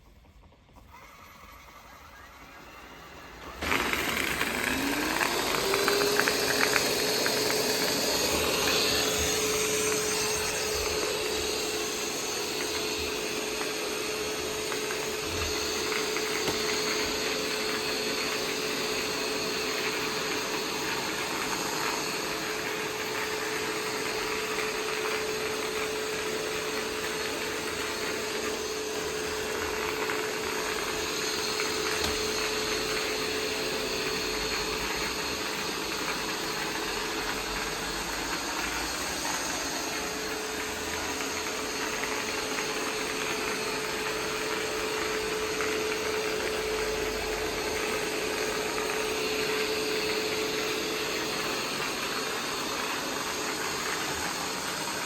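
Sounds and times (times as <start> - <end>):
suction and brushes whirring: 0.0 - 55.0
robot vacuum motor whine: 0.1 - 55.0.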